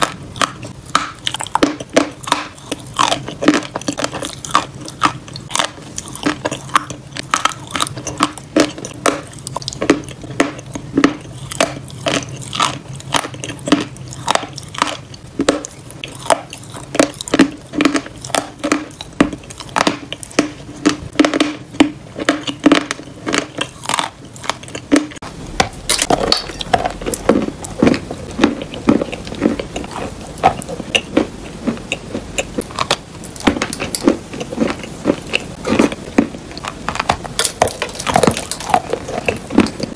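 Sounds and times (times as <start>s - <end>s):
crunching and chewing chalk: 0.0s - 39.9s.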